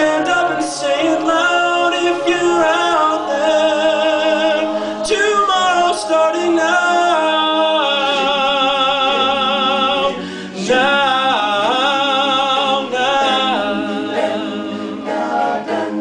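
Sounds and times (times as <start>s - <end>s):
male soloist singing: 0.0s - 15.4s
male group backing chord: 0.0s - 16.0s.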